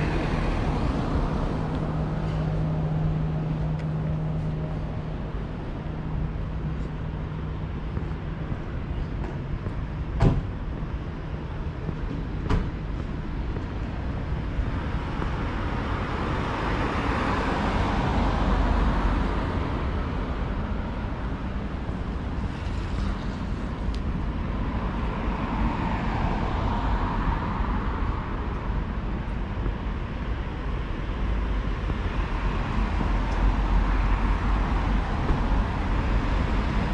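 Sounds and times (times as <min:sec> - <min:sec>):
road traffic: 0:00.0 - 0:36.9.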